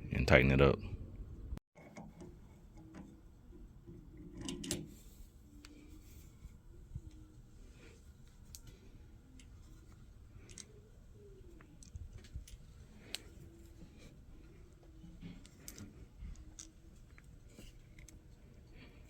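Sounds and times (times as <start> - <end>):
faint valve clicks and creaks: 1.8 - 7.4, 8.2 - 19.0.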